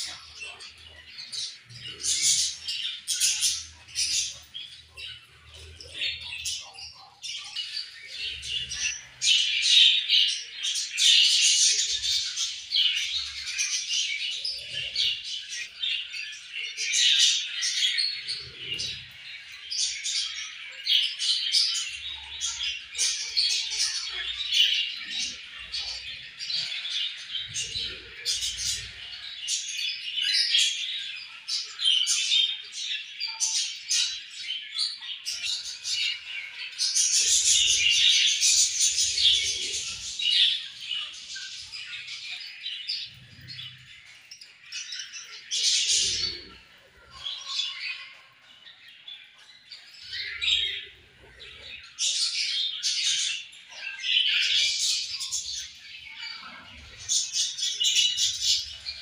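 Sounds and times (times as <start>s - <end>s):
budgerigars chattering: 0.0s - 34.3s, 35.1s - 48.6s, 49.9s - 59.0s.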